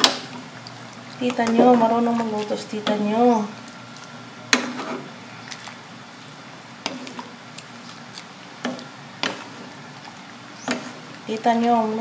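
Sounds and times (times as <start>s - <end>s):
spatula stirring stew: 0.0s - 12.0s.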